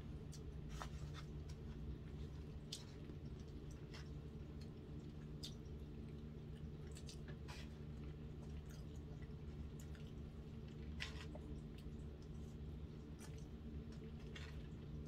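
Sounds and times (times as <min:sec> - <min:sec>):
steady low hum: 0:00.0 - 0:15.0
wet chewing with mouth smacks: 0:00.2 - 0:15.0.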